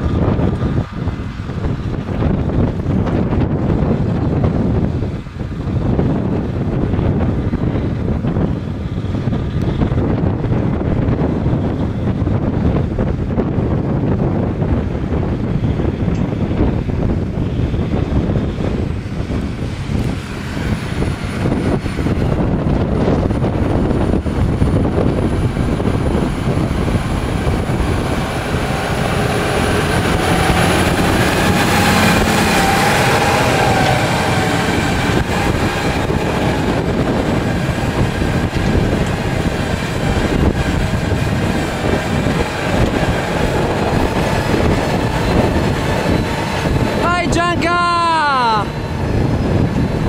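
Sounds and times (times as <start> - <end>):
tractor engines running under load: 0.0 - 50.0.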